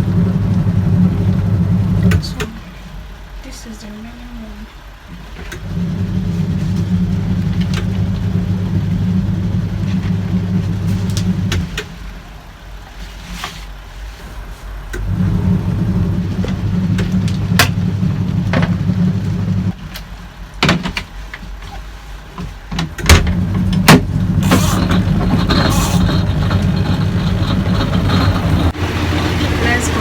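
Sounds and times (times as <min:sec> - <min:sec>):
washing machine motor humming: 0:00.0 - 0:30.0.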